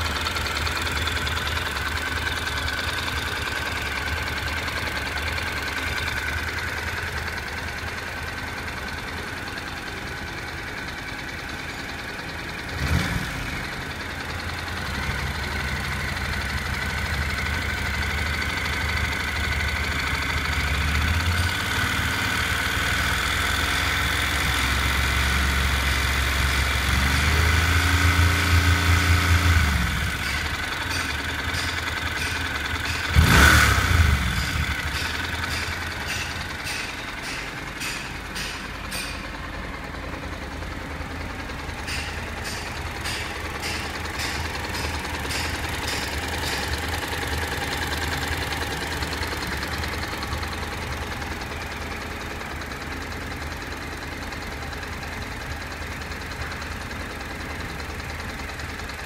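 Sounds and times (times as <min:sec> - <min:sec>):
engine rattling and knocking: 0:00.0 - 0:59.0
motorcycle engine running: 0:00.0 - 0:59.0.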